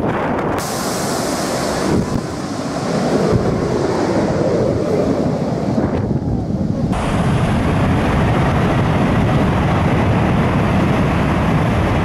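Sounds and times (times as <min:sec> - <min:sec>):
jet engines at takeoff thrust: 0:00.0 - 0:12.0
wind buffeting microphone: 0:00.0 - 0:12.0.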